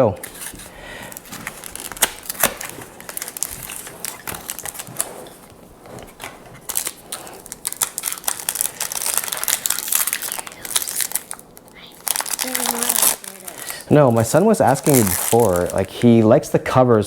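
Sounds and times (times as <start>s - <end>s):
foil wrappers crinkling and tearing: 0.0s - 16.5s.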